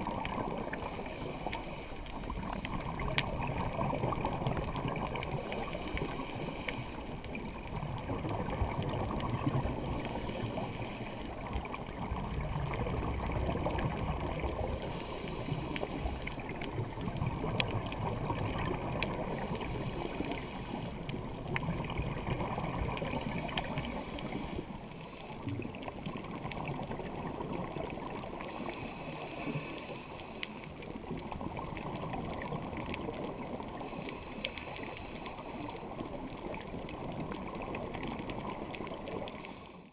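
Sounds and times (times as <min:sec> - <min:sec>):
underwater diver bubbles: 0:00.0 - 0:39.9.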